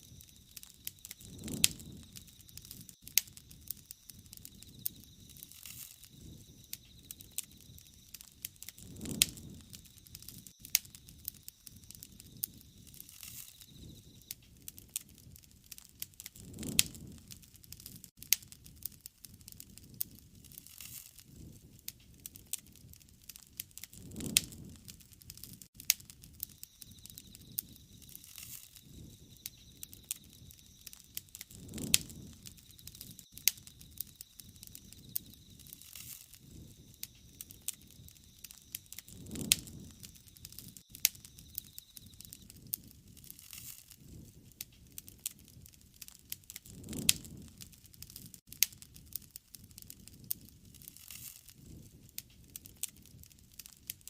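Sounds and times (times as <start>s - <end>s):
sharp pops of fire: 0.0s - 54.0s
wood fire crackling: 0.0s - 54.0s.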